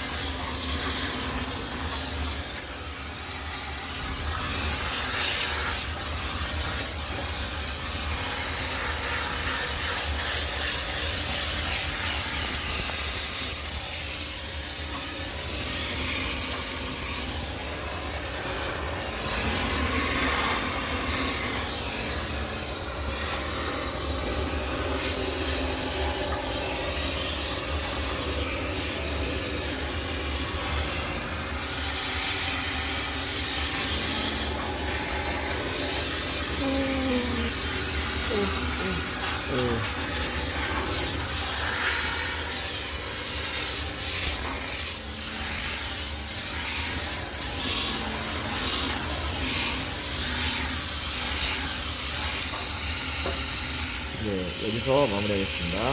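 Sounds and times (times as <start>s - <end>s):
steam cleaner hissing: 0.0s - 55.9s.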